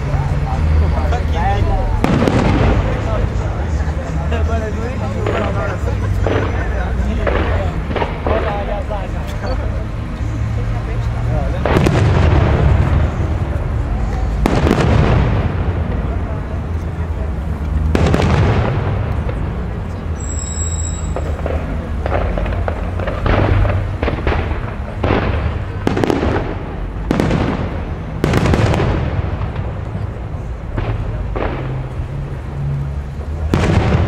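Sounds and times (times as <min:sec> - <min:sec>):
firework bangs with echo: 0:01.6 - 0:03.8, 0:05.0 - 0:09.2, 0:11.5 - 0:34.0.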